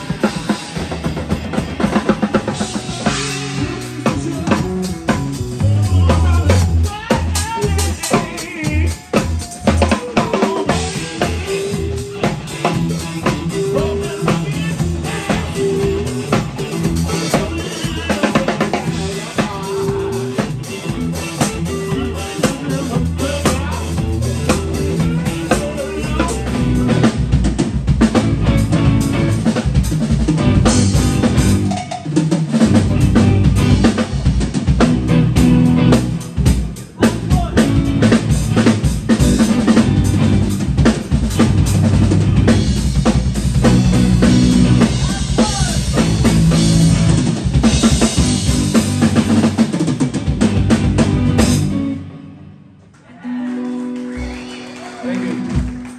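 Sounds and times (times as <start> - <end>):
live band playing loud: 0.0 - 55.9.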